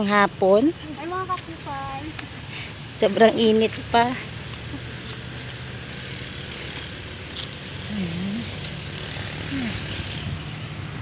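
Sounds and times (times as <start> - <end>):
motorcycle engine running: 0.2 - 11.0.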